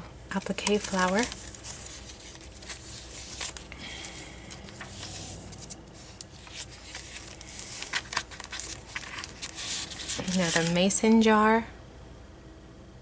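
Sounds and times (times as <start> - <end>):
paper rustling: 0.3 - 11.0.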